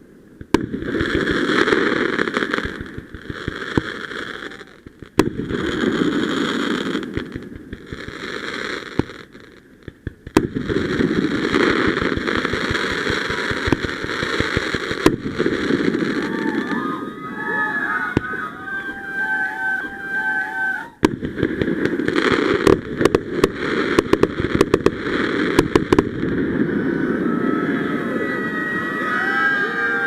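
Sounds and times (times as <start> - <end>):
fireworks crackling: 0.0 - 30.0
firework bangs: 0.4 - 30.0.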